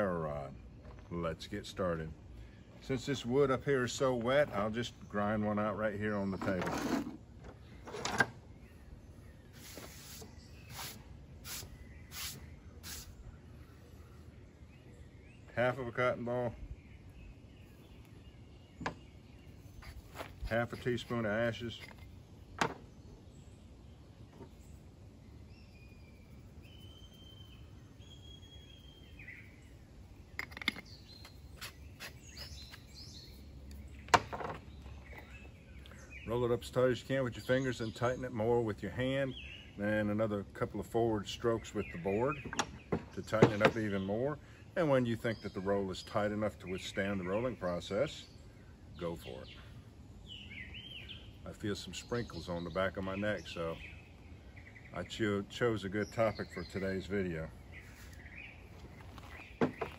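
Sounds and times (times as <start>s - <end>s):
birds singing: 0.0s - 59.9s.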